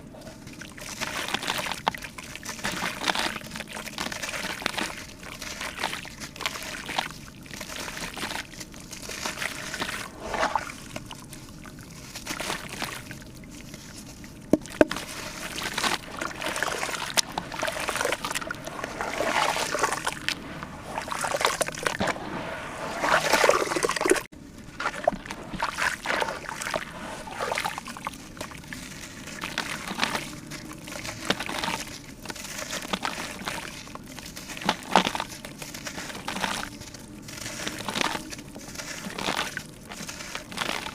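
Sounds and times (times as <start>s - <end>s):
liquid pouring and sloshing: 0.0s - 40.9s.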